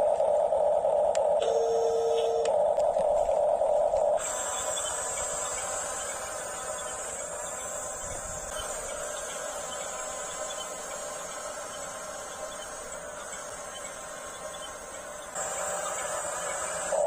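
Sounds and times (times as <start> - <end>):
electric motors and gearboxes whirring: 0.0 - 17.0.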